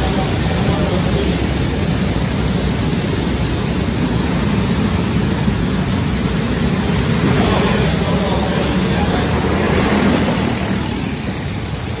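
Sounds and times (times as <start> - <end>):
go-kart engines droning: 0.0 - 12.0.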